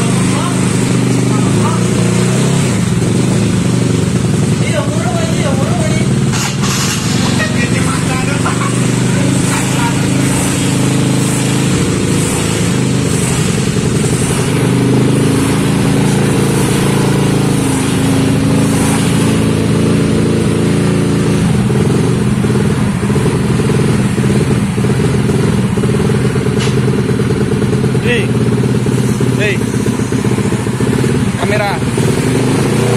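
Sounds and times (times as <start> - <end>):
scooter engine running: 0.0 - 32.9.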